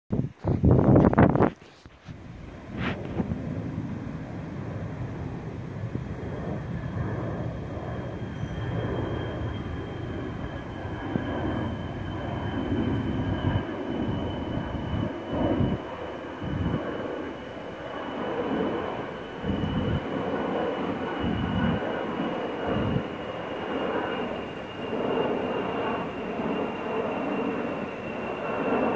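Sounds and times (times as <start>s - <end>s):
wind buffeting microphone: 0.1s - 27.7s
jet engines rumbling overhead: 0.2s - 28.9s.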